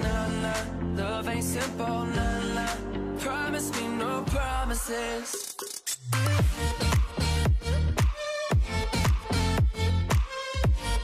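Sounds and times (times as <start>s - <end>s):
pop song with singing: 0.0s - 11.0s.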